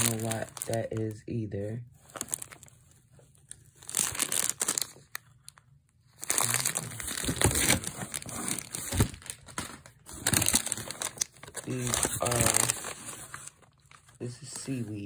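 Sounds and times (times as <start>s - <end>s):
plastic wrappers crinkling: 0.0s - 1.2s, 2.0s - 15.0s.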